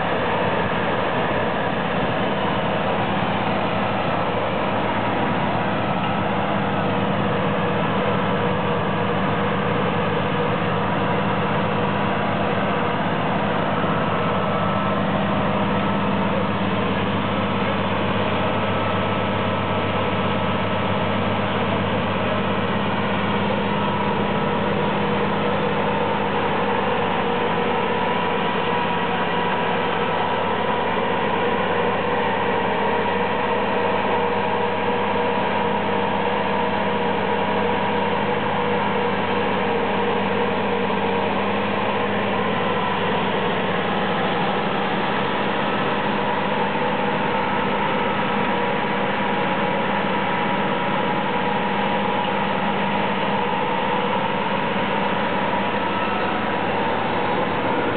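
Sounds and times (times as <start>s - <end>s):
machinery humming: 0.0s - 57.9s.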